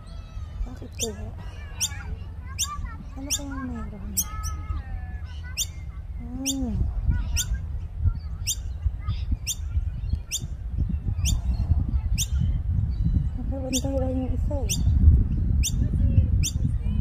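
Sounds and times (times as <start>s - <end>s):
steady low rumble: 0.0s - 17.0s
bird chirping: 0.1s - 16.7s.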